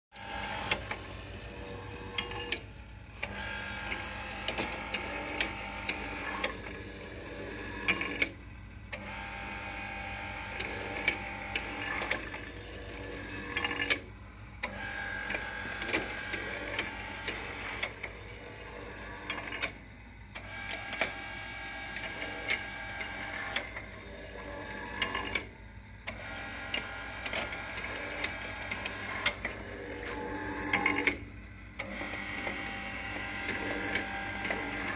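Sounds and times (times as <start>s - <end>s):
sharp mechanical clicks: 0.2s - 1.1s, 2.0s - 6.8s, 7.7s - 34.9s
machine mechanical whirring: 0.2s - 34.9s.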